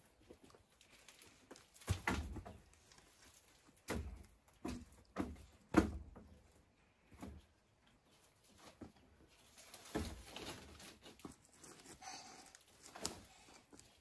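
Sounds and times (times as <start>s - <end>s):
rustling and clattering: 0.0s - 12.0s.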